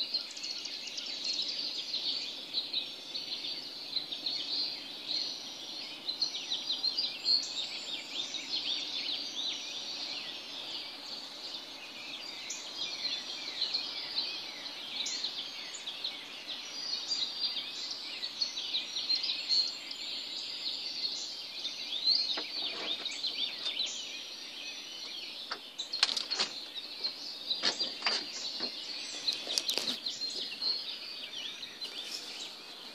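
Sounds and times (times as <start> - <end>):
birds chirping and whistling: 0.0 - 32.9.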